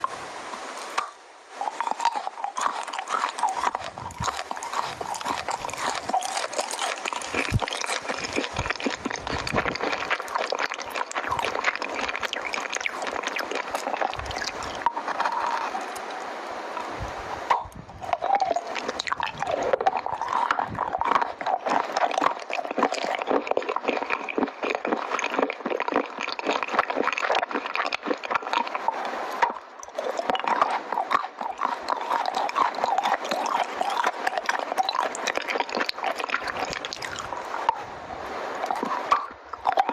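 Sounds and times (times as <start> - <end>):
wet mouth chewing clicks: 1.0 - 37.9, 38.6 - 39.9.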